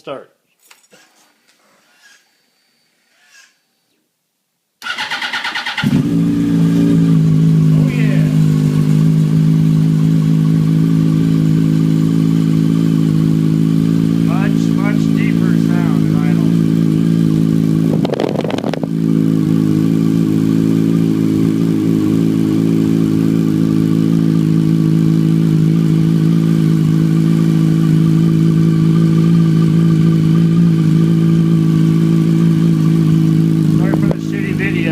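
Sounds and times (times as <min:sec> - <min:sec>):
motorcycle engine idling: 0:04.8 - 0:34.9.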